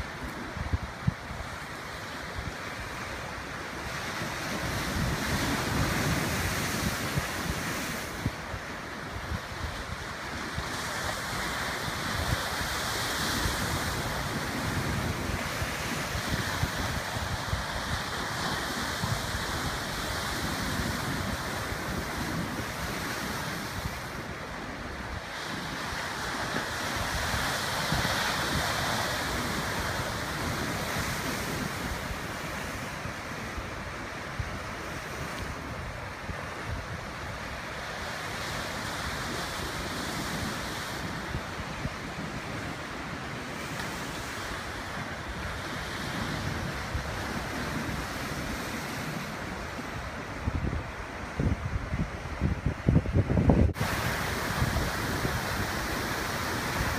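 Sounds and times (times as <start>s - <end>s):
ocean surf washing in: 0.0s - 56.9s
wind buffeting microphone: 0.0s - 56.9s.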